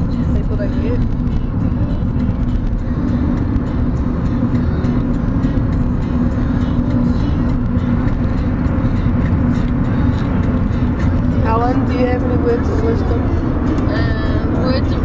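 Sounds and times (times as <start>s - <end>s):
constant low hum: 0.0s - 15.0s
road and engine noise: 0.0s - 15.0s.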